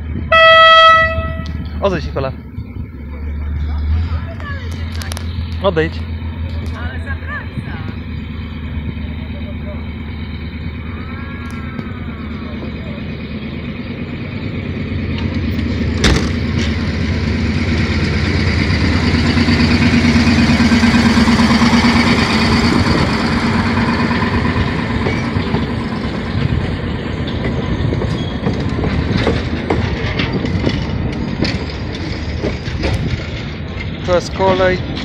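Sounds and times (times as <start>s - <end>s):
carriages rolling by: 0.0s - 35.0s
railcar engine drone: 0.0s - 35.0s.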